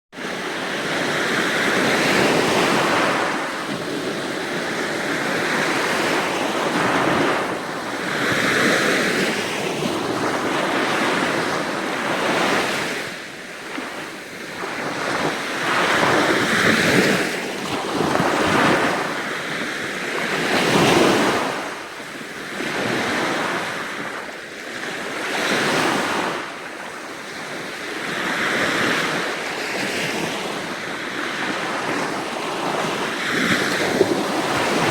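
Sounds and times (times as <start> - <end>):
sea waves breaking: 0.2 - 34.9.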